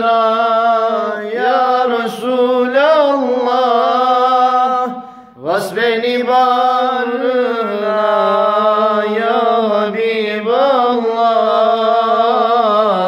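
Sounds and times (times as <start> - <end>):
man singing a hymn: 0.0 - 13.0.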